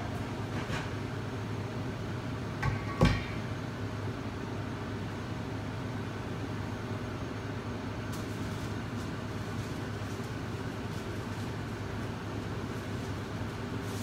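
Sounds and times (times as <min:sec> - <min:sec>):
exhaust fan hum: 0:00.0 - 0:14.0.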